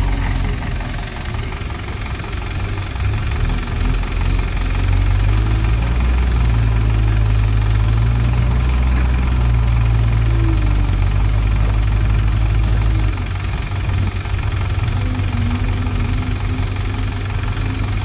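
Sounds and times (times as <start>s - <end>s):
diesel engines rumbling: 0.0s - 18.0s.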